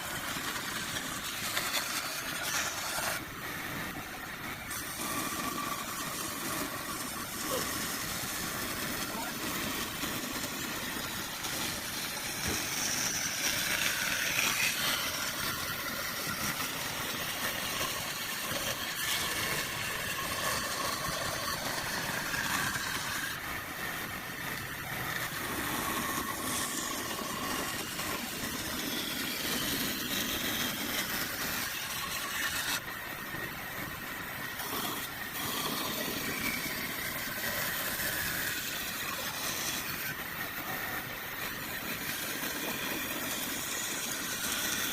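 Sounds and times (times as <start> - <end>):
motor running with light rattle: 0.0 - 44.9.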